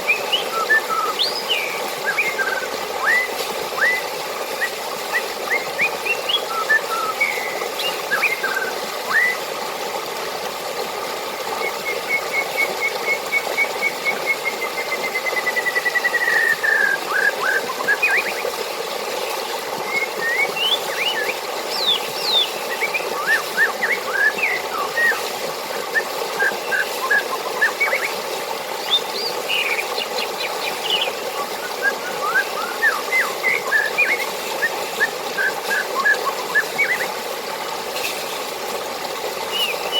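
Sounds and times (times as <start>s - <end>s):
birds chirping and whistling: 0.0s - 9.4s, 11.5s - 18.5s, 19.9s - 25.2s, 25.8s - 28.2s, 28.8s - 37.1s, 39.5s - 39.9s
rapid repeated bird notes: 0.0s - 9.6s, 11.2s - 37.4s, 39.1s - 39.9s
running water: 0.0s - 39.9s.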